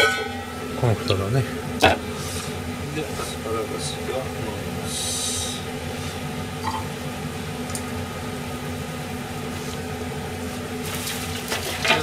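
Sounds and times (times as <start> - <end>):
kitchen machinery humming: 0.0 - 12.0.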